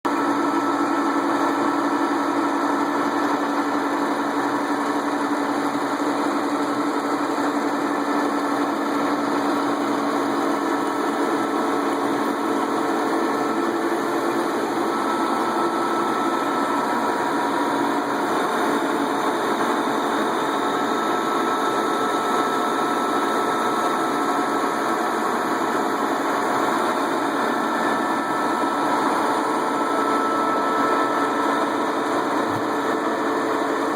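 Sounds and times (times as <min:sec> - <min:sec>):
lathe running: 0:00.1 - 0:33.9.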